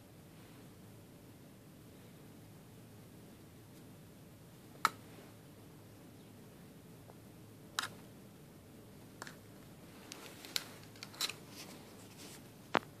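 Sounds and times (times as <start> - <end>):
quiet room hum: 0.0 - 13.0.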